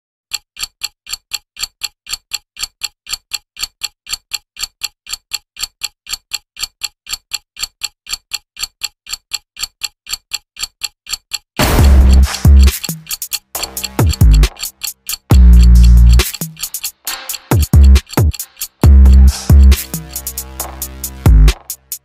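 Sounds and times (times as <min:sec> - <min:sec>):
clock ticking: 0:00.3 - 0:22.0.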